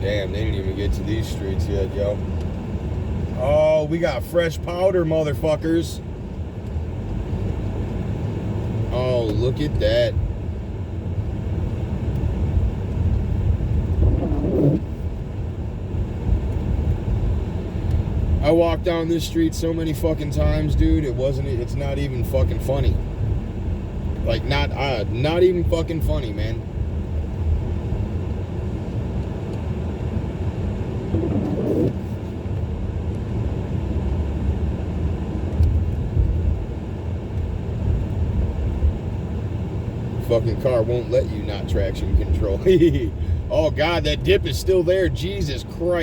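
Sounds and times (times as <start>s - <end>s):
car engine rumble: 0.0s - 46.0s.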